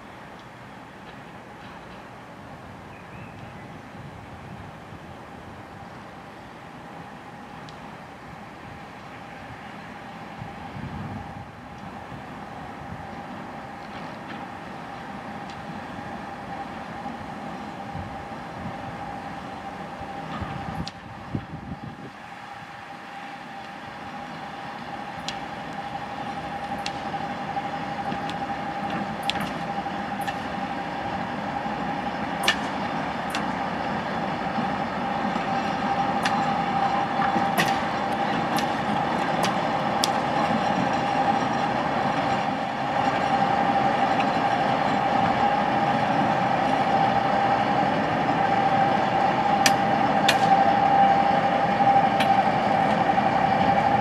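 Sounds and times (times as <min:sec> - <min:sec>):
diesel locomotive rolling past: 0:00.0 - 0:54.0
high whine: 0:06.0 - 0:54.0.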